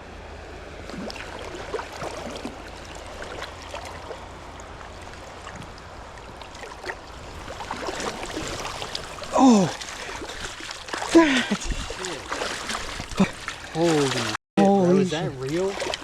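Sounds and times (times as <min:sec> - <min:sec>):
creek water running: 0:00.5 - 0:16.0
small splashes: 0:00.8 - 0:14.4, 0:15.3 - 0:16.0.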